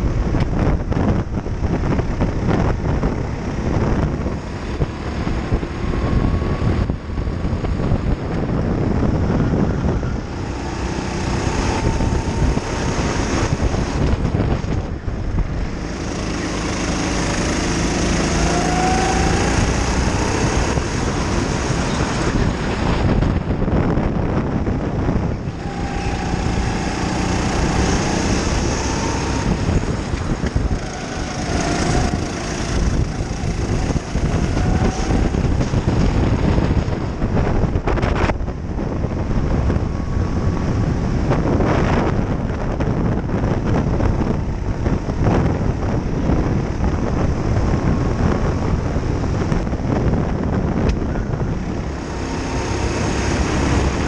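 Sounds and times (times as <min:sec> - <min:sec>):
another kart engine: 0:00.0 - 0:54.0
kart engine running hard: 0:00.0 - 0:54.0.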